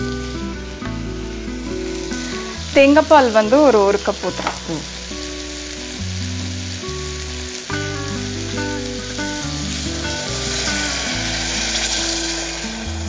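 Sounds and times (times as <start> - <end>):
background music with bass: 0.0 - 13.0
food sizzling in pressure cooker: 0.0 - 13.0.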